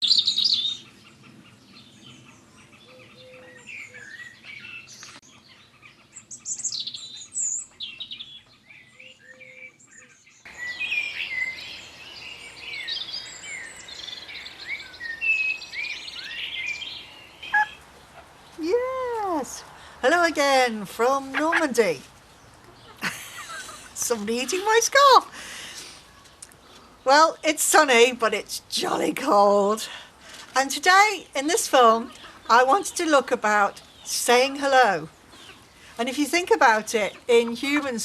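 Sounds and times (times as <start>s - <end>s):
small birds chirping and singing: 0.0s - 38.0s.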